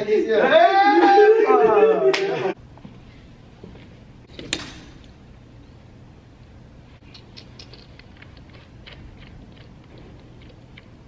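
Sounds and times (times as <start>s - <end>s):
low steady hum: 2.0s - 11.0s.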